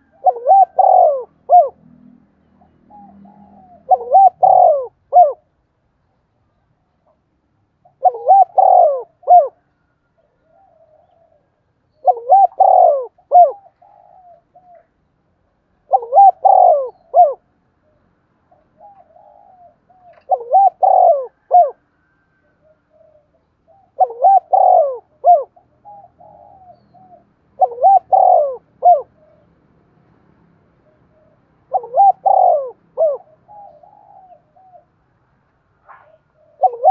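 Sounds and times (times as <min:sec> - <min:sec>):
dove cooing: 0:00.0 - 0:05.5, 0:07.8 - 0:15.0, 0:15.8 - 0:29.6, 0:30.8 - 0:35.0, 0:35.8 - 0:36.9.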